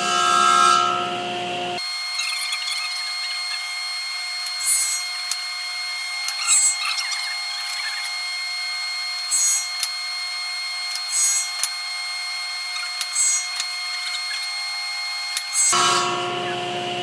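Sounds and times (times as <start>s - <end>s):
table saw whine: 0.0s - 17.0s
saw blade cutting wood: 1.8s - 16.6s.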